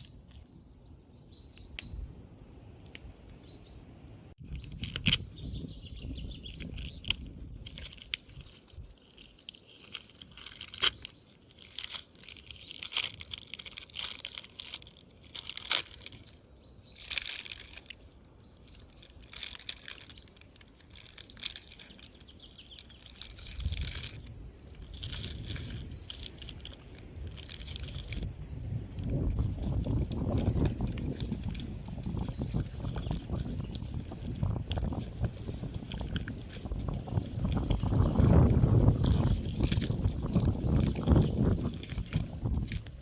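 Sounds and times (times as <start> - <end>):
small birds chirping: 0.0 - 43.0
crunching and crackling: 4.3 - 43.0.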